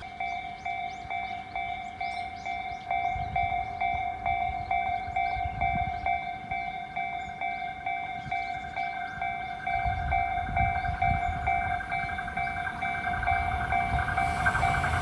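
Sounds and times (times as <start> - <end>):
level crossing alarm dinging: 0.0 - 15.0.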